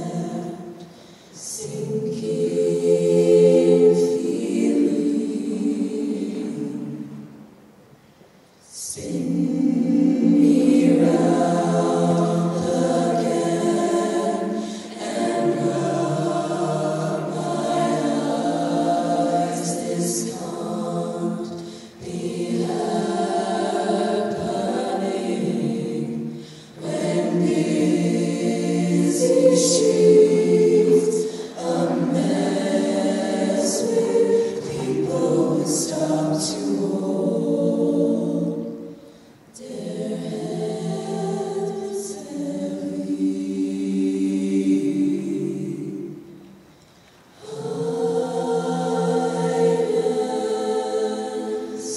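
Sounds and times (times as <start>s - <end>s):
women singing a cappella harmony: 0.0s - 7.5s, 8.6s - 46.5s, 47.3s - 51.9s.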